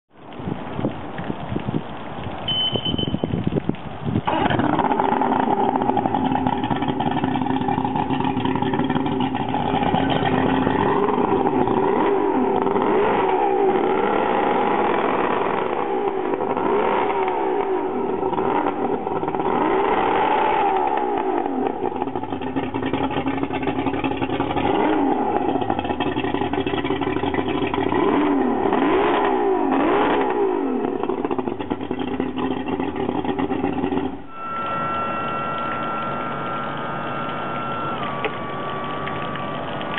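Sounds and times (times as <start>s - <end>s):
outboard motor revving: 4.2s - 39.9s.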